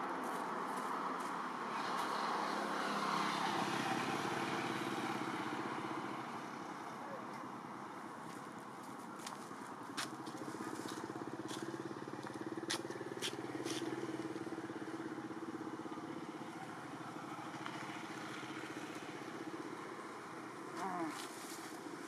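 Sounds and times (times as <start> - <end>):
motorcycle engine drone: 1.7 - 22.0.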